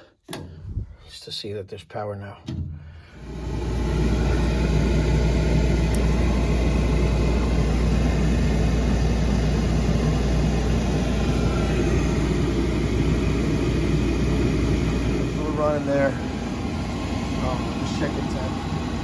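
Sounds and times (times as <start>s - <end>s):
oil burner rumbling: 2.7s - 19.0s.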